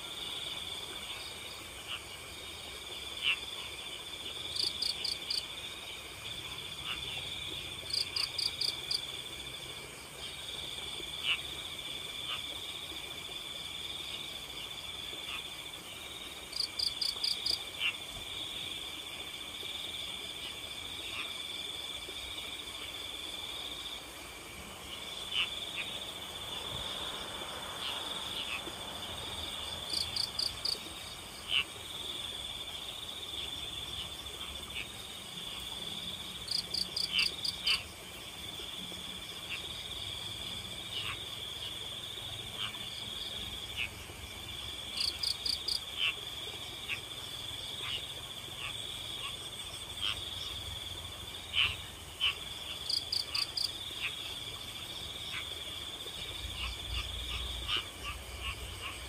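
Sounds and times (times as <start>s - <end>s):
crickets trilling: 0.0s - 59.0s
quick cricket chirps: 0.0s - 59.0s.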